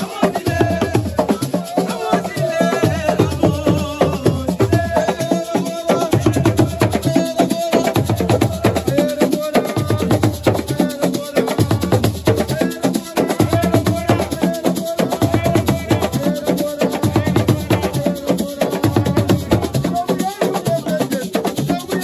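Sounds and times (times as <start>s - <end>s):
drums: 0.0s - 22.0s
rattling shakers: 0.0s - 22.0s.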